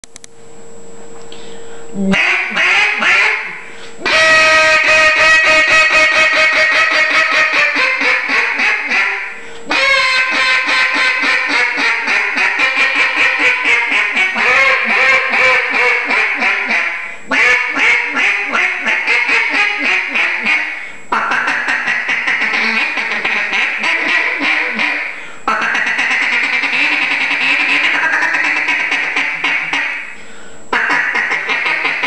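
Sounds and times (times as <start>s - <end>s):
duck call quacks: 2.1s - 32.0s.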